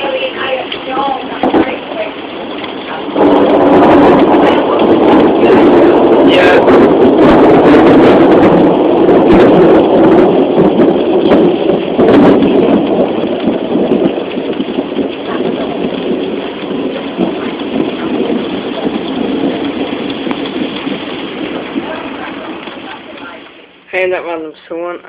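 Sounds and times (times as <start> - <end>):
heavy rain: 0.0 - 25.0
thunder rolling: 0.0 - 25.0.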